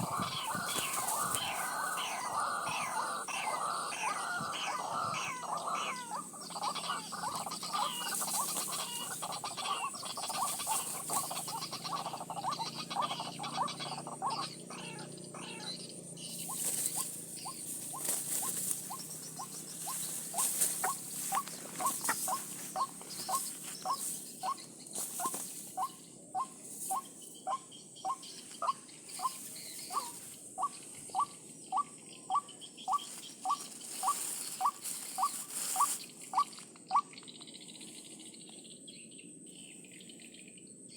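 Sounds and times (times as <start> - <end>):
waterhen calling: 0.0 - 15.8, 16.4 - 24.6, 25.2 - 37.1.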